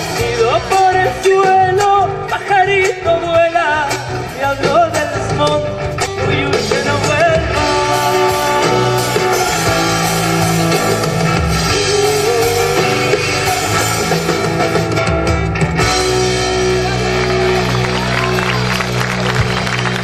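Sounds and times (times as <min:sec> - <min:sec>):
live folk band with guitar: 0:00.0 - 0:20.0.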